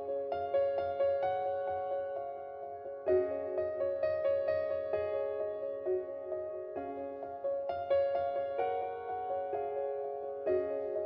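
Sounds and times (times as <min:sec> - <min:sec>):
soft piano melody: 0:00.0 - 0:11.0.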